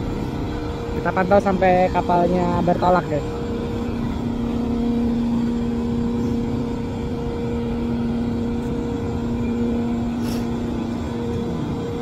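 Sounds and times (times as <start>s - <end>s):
ship engines humming: 0.0s - 12.0s.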